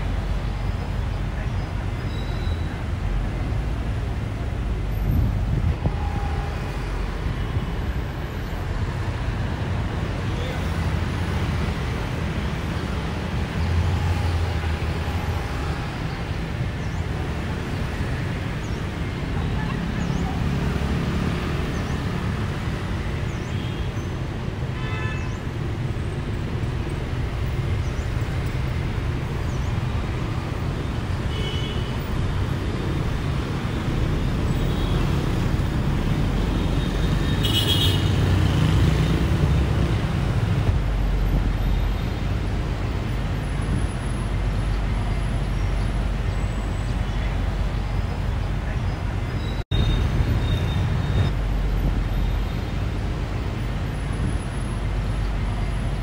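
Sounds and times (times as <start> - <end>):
bus engine rumble: 0.0 - 24.7, 31.9 - 56.0
motorbikes and cars passing: 0.0 - 56.0.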